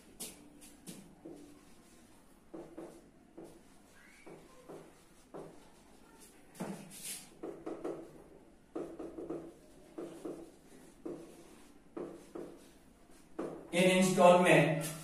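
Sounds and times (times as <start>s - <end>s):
marker writing on whiteboard: 0.0s - 15.0s.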